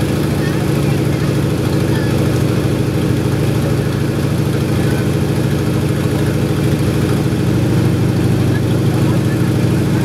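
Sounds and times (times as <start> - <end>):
propeller plane engine from cabin: 0.0 - 10.0.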